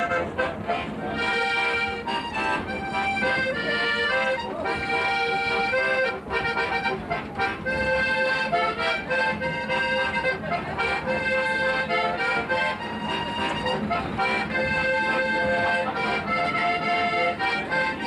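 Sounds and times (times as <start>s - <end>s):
button accordion playing a tune: 0.0s - 18.0s.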